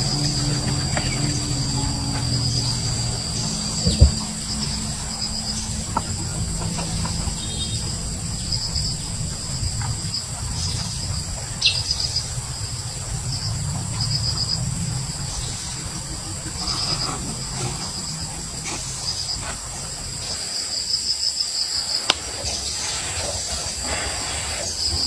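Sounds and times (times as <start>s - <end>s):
low steady rumble: 0.0s - 20.4s
insects chirping trill: 0.0s - 25.0s.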